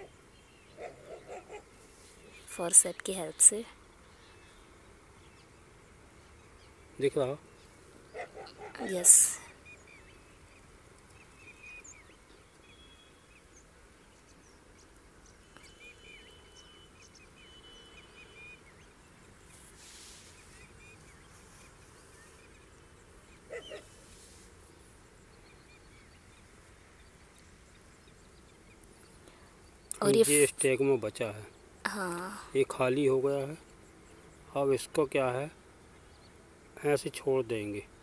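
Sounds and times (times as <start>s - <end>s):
faint birds chirping: 0.0s - 38.0s
outdoor background hiss: 0.0s - 38.0s.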